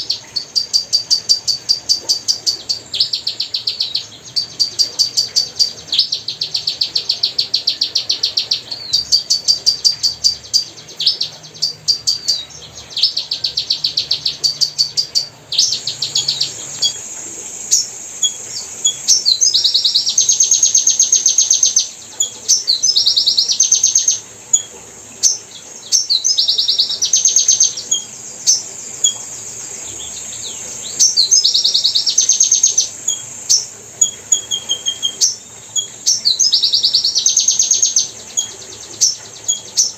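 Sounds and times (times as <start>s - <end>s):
faint steady hiss: 0.0s - 39.9s
small bird trilled chirps: 0.0s - 39.9s.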